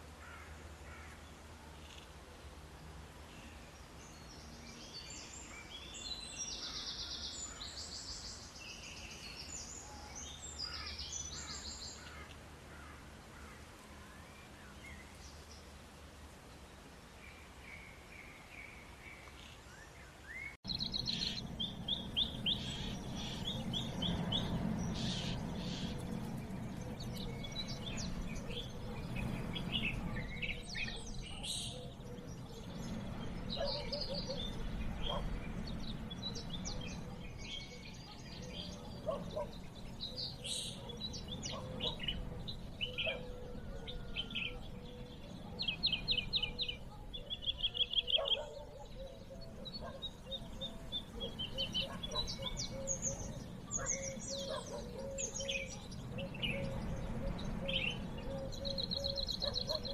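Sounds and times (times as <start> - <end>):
steady low background noise: 0.0 - 59.9
birds trilling and chirping: 4.2 - 13.7, 20.3 - 59.9.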